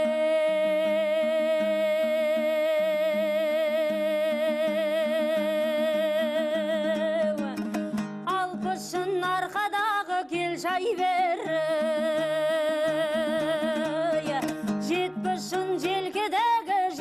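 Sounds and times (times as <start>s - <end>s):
strummed lute: 0.0s - 17.0s
woman singing: 0.0s - 17.0s.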